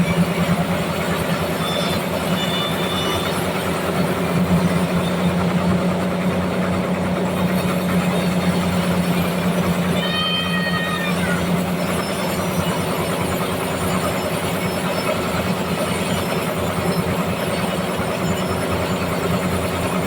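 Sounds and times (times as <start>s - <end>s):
low engine hum: 0.0s - 20.0s
sawmill machinery running: 0.0s - 20.0s.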